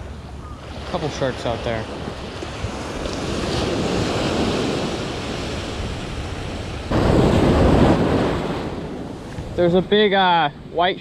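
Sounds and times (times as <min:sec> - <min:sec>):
surf washing on beach: 0:00.0 - 0:11.0
wind buffeting microphone: 0:01.7 - 0:10.8.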